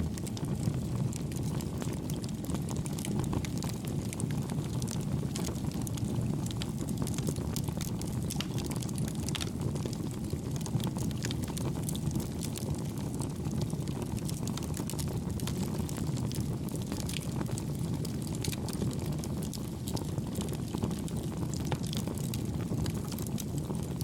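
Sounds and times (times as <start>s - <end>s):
campfire flames rumbling: 0.0s - 24.0s
fire crackling: 0.0s - 24.0s.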